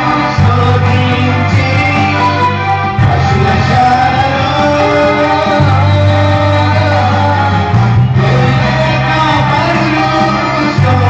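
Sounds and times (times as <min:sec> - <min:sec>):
electronic keyboard playing: 0:00.0 - 0:11.0
man singing into a microphone: 0:00.0 - 0:11.0.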